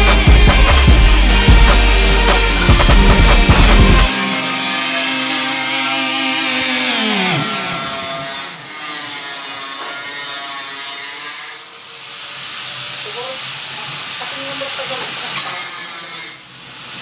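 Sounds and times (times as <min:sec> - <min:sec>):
power tool motor whining: 0:00.0 - 0:17.0.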